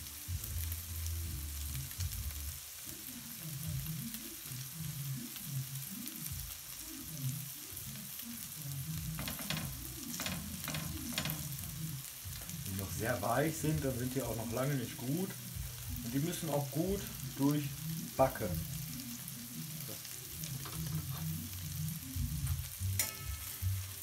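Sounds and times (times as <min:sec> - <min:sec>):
meat sizzling in a pan: 0:00.0 - 0:24.0
oil crackling: 0:00.0 - 0:24.0.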